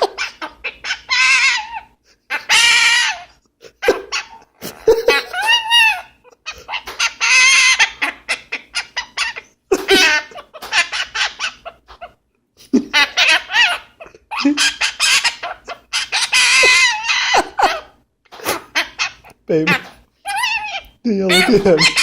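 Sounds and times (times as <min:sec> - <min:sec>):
parrot squawking: 0:00.0 - 0:12.2, 0:12.9 - 0:22.0.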